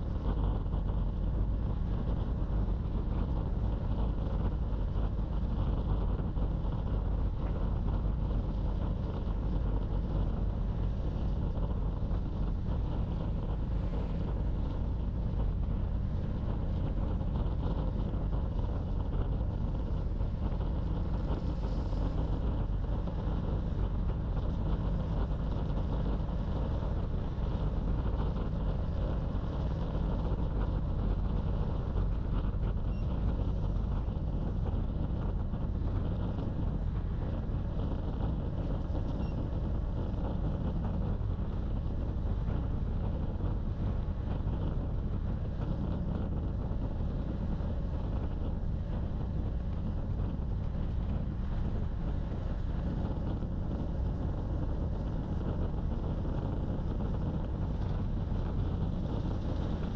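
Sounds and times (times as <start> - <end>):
wind rush on microphone: 0.0 - 59.9.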